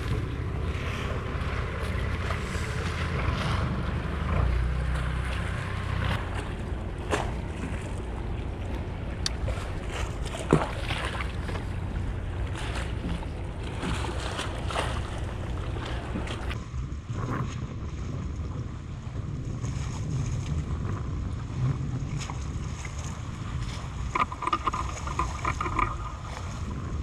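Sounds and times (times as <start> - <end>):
low motor hum: 0.0 - 27.0
water moving around boat: 0.0 - 27.0
wind on microphone: 0.0 - 27.0.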